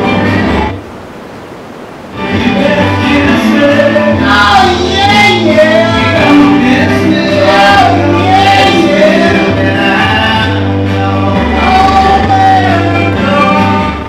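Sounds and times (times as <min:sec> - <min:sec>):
steady bass notes: 0:00.0 - 0:01.0, 0:01.7 - 0:14.0
singing with wavering notes: 0:00.0 - 0:14.0.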